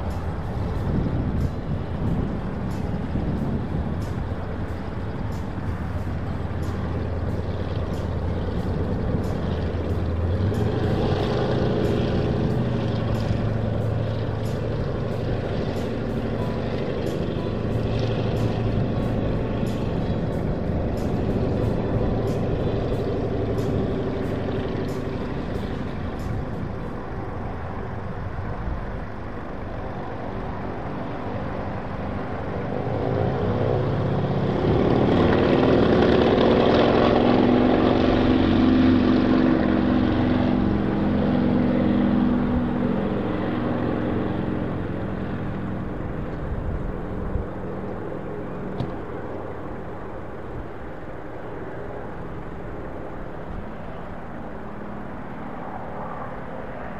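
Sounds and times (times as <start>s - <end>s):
propeller airplane engine: 0.0s - 56.9s.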